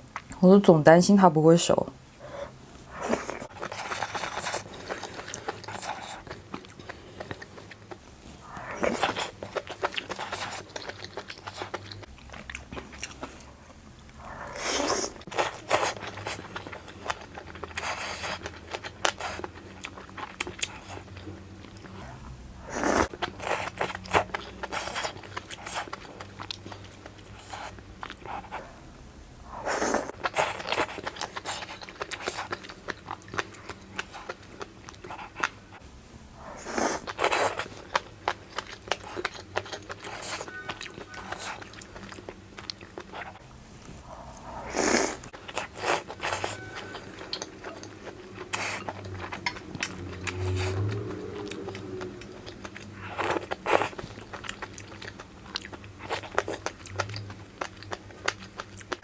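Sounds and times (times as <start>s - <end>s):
person chewing food: 2.2s - 28.8s, 29.5s - 35.8s, 36.4s - 59.0s.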